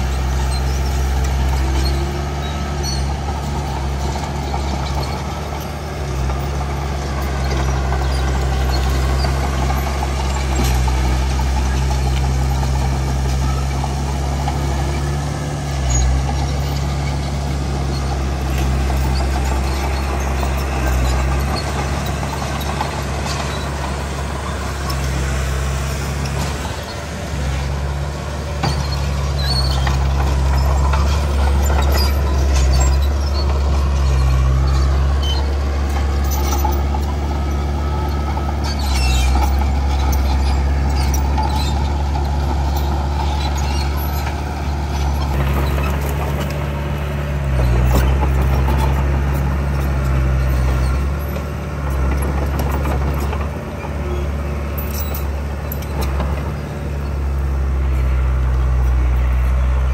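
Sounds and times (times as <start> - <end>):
heavy machinery diesel engine: 0.0 - 59.9.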